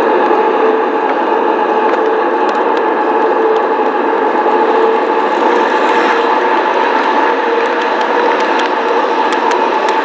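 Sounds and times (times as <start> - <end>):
model train motor whine: 0.0 - 10.0
model train rolling on track: 0.0 - 10.0.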